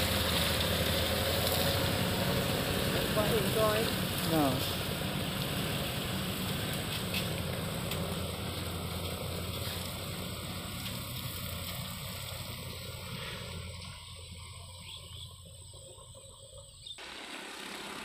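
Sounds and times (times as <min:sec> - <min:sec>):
dump truck engine running: 0:00.0 - 0:18.0.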